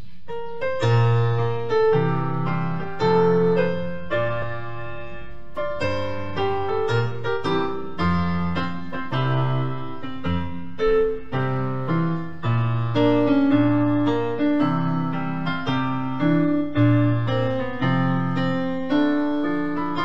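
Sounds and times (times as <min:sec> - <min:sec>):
piano playing hymn introduction: 0:00.0 - 0:20.0.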